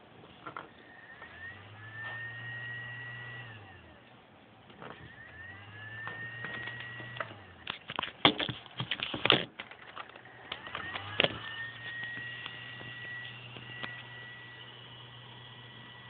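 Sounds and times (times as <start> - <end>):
electric fan humming and whining: 0.0 - 16.0.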